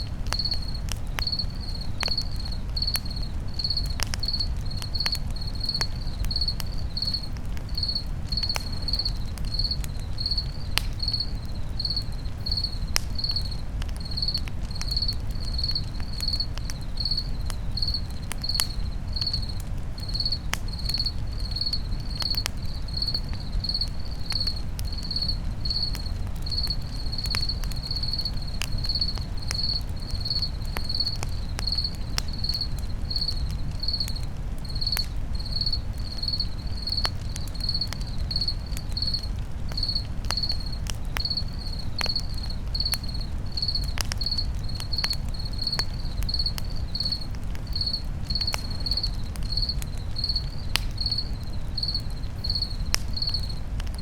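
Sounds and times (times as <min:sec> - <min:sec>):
campfire crackling: 0:00.0 - 0:54.0
crickets chirping: 0:00.0 - 0:54.0
low rumble of fire: 0:00.0 - 0:54.0.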